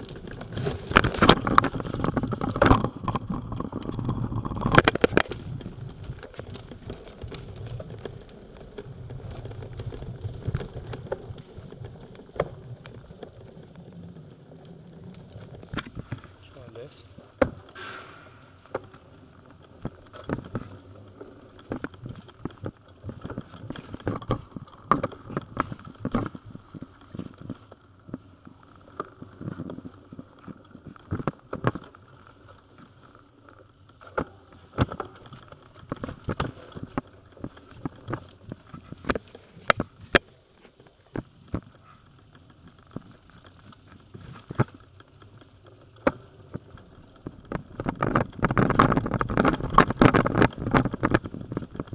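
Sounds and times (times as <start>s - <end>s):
bicycle rattling and clunking: 0.0s - 51.9s.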